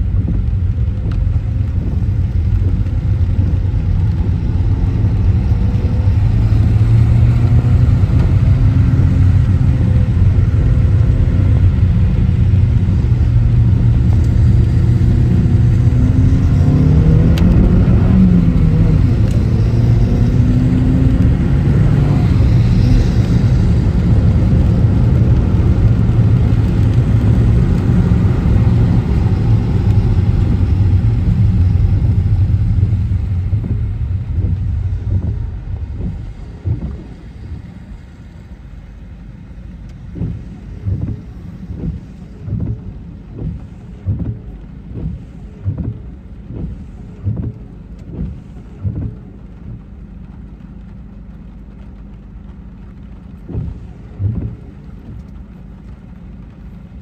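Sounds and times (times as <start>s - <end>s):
car tyres on wet road: 0.0s - 57.0s
soft low thumps: 0.0s - 57.0s.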